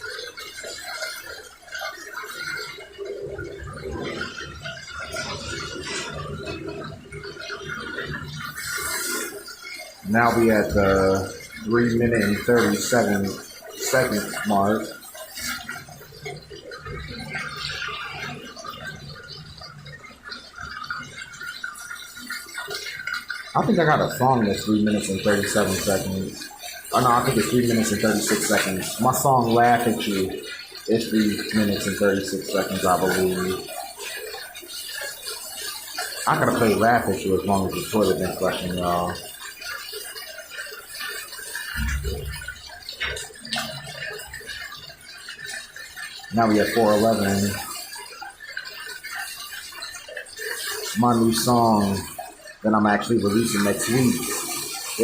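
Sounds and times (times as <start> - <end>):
toilet flushing: 0.0 - 55.0.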